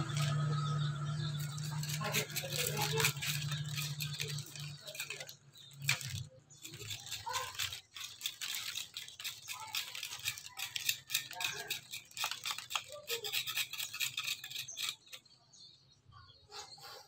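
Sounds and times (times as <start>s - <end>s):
knife scraping coconut husk: 0.0s - 15.3s.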